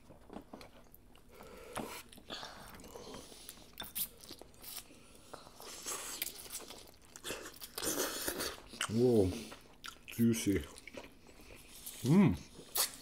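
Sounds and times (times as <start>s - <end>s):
chewing and slurping noodles: 0.2s - 13.0s.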